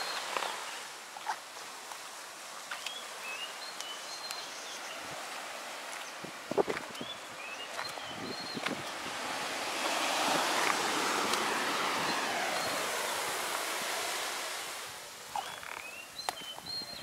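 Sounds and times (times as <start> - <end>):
ocean surf washing up beach: 0.0 - 16.6.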